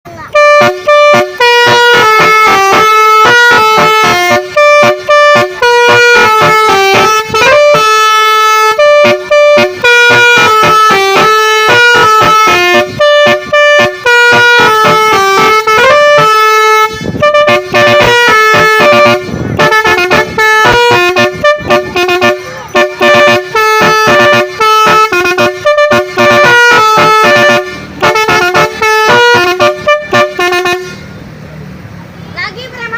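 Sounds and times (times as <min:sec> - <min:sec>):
musical bus horn melody: 0:00.1 - 0:31.2.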